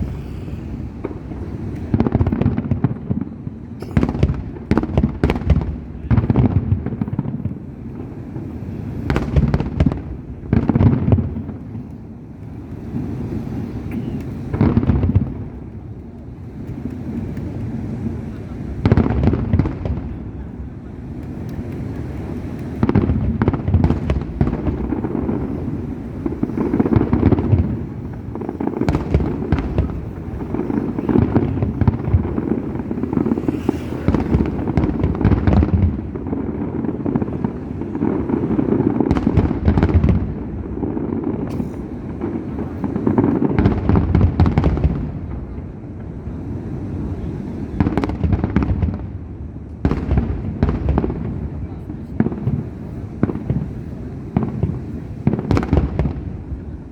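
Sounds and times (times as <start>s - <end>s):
fireworks bursting: 0.0s - 56.9s.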